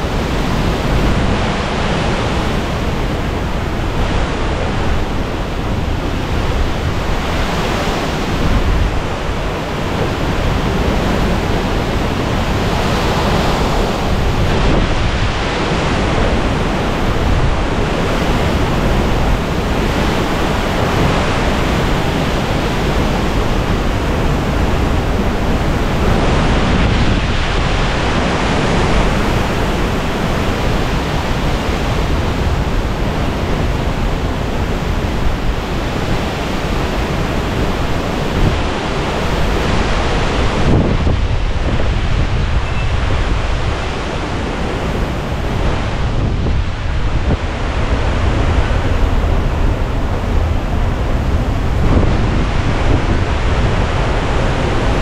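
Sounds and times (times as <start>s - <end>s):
hurricane wind blowing: 0.0s - 55.0s
wind buffeting microphone: 0.0s - 55.0s.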